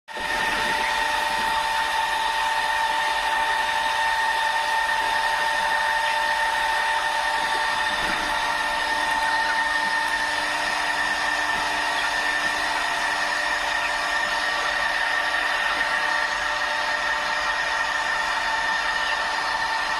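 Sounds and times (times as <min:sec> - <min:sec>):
high-pitched machine whine: 0:00.1 - 0:19.9
low hum: 0:00.1 - 0:19.9.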